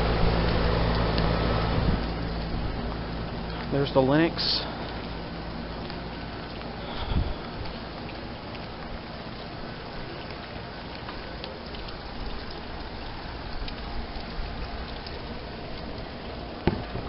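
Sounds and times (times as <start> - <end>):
heat pump fan rushing: 0.0 - 17.0.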